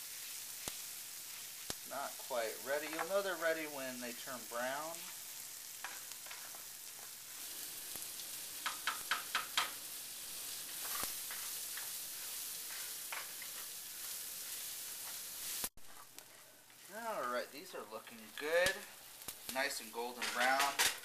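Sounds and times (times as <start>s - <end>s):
rice sizzling in butter: 0.0s - 21.0s.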